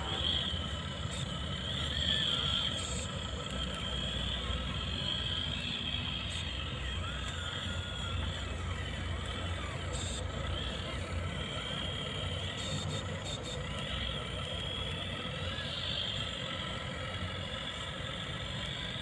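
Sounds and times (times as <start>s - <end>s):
model truck motor whining: 0.0s - 19.0s.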